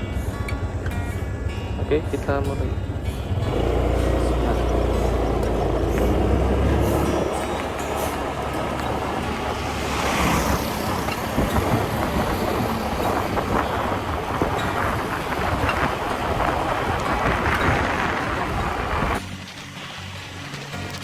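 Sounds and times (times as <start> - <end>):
wind buffeting microphone: 0.0 - 19.6
vehicle running on road: 0.0 - 21.0.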